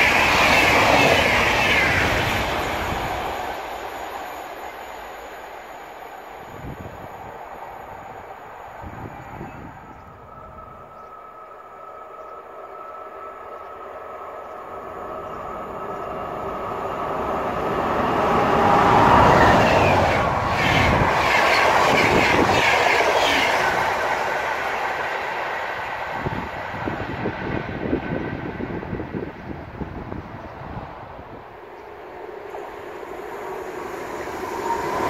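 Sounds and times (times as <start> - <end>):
electric locomotive rumble: 0.0 - 35.0.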